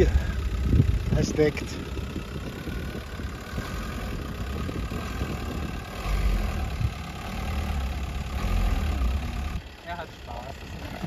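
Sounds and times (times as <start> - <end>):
van engine running under load: 0.0 - 11.0.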